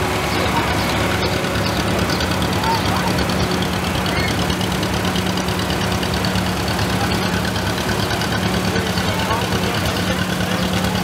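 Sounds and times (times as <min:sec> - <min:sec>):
tractor engines running: 0:00.0 - 0:11.0
two-cylinder tractor passing: 0:00.0 - 0:11.0.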